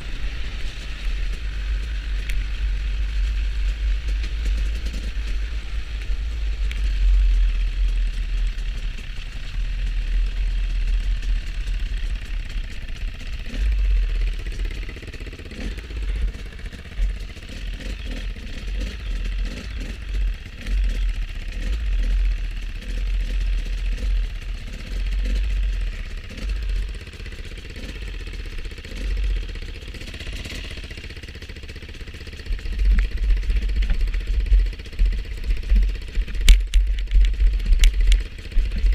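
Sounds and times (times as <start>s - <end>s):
motorcycle engine and road noise: 0.0s - 38.9s.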